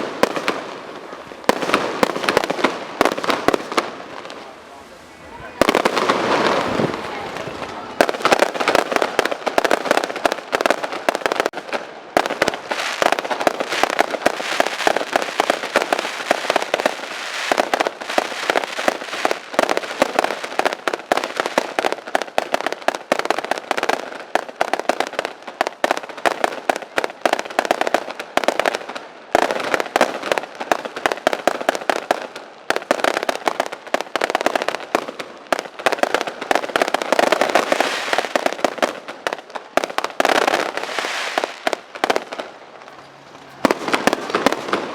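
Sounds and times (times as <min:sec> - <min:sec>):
fireworks crackling: 0:00.0 - 0:44.9.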